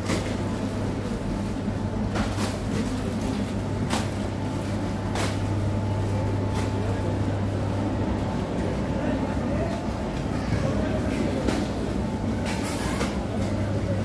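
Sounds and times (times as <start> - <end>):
steady low hum: 0.0 - 14.0
trolley wheels rumbling: 0.0 - 14.0.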